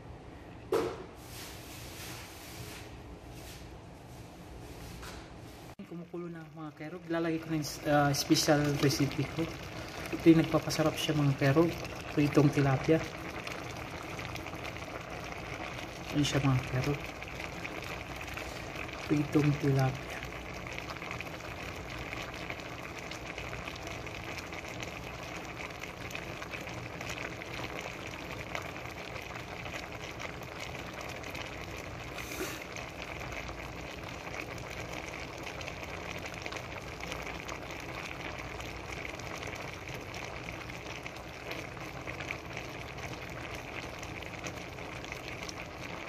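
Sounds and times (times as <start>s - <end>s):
stew boiling in a pot: 4.7s - 46.0s.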